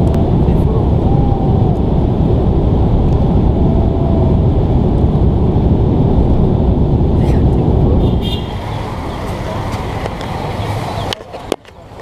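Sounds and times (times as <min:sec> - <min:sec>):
rushing air: 0:00.0 - 0:11.0
airplane engines rumbling: 0:00.0 - 0:12.0.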